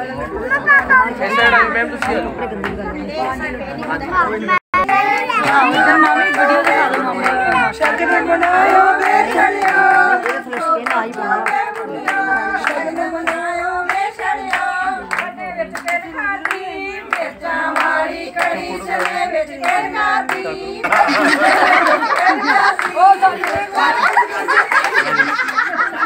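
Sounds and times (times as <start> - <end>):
rhythmic hand claps: 0.0 - 4.1, 4.8 - 26.0
women singing together: 0.0 - 4.1, 4.8 - 26.0.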